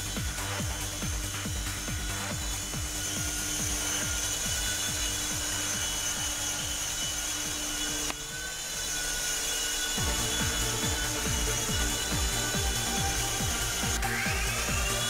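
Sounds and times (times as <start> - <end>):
electronic dance music: 0.0 - 9.2, 9.8 - 15.0
toy helicopter motor whining: 0.0 - 15.0.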